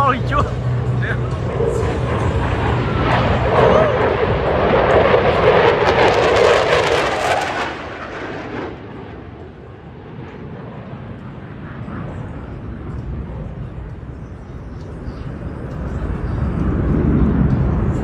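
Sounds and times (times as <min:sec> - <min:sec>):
distant low rumble: 0:00.0 - 0:18.0
fighter jets roaring overhead: 0:00.0 - 0:18.0.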